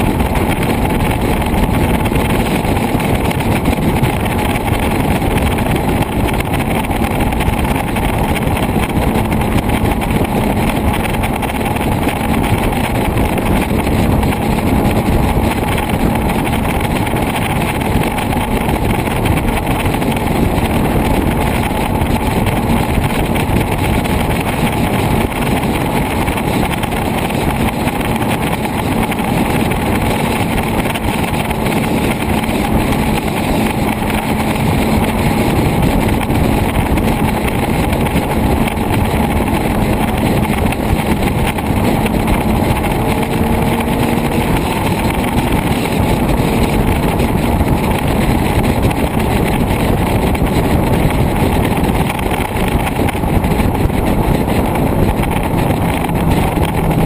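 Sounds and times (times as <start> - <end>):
motorcycle engine drone: 0.0 - 57.0
wind noise: 0.0 - 57.0.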